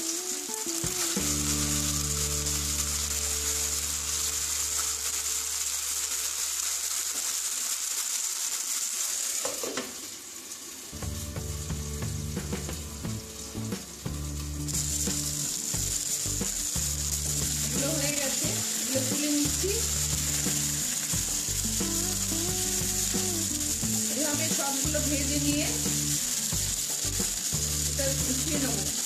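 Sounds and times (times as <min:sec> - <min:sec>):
food sizzling in oil: 0:00.0 - 0:29.0.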